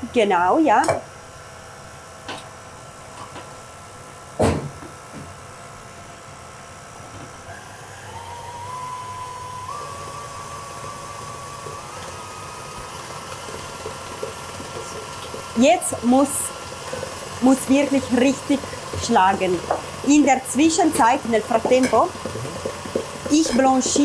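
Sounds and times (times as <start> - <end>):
stand mixer motor whine: 1.1 - 24.0.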